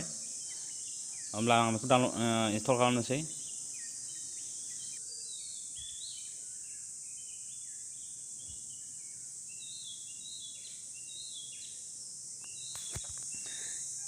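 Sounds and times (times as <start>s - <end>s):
birds chirping: 0.0s - 14.0s
insects droning: 0.0s - 14.0s.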